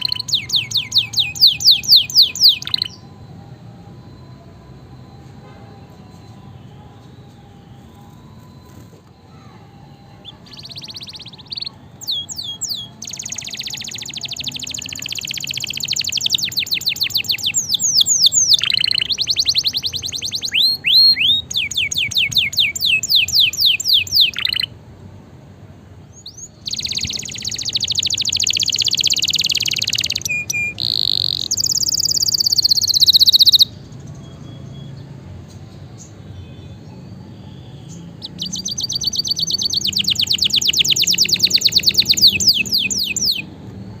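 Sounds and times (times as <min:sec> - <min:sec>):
canary singing trills: 0:00.0 - 0:03.2, 0:05.8 - 0:24.8, 0:26.0 - 0:43.6.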